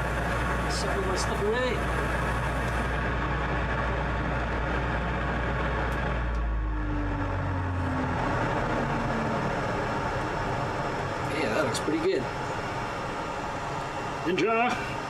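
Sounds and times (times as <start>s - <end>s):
exhaust fans rushing air: 0.0s - 15.0s
fan winding down: 0.0s - 15.0s.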